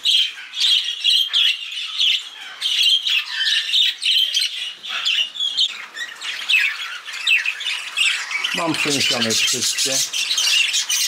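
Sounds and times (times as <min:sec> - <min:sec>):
budgerigars chirping and squawking: 0:00.0 - 0:11.0.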